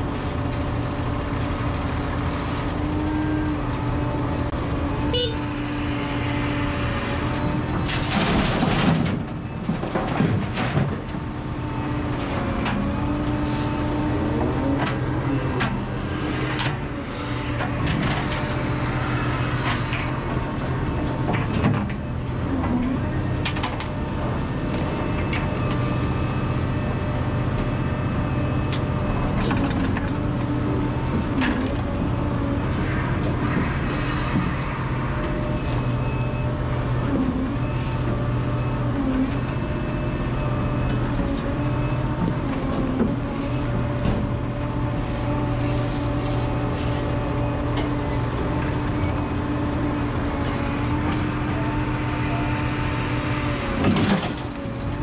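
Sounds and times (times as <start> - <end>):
excavator diesel engine running: 0.0 - 55.0
hydraulics whining: 0.0 - 55.0.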